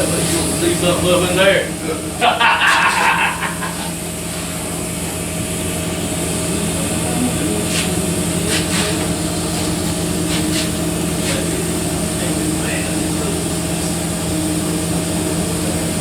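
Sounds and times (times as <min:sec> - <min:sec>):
machine engine droning: 0:00.0 - 0:16.0.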